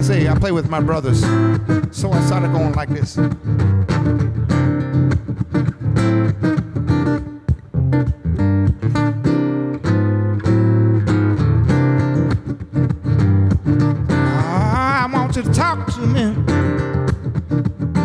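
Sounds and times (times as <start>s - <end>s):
solo guitar strumming chords: 0.0s - 18.0s.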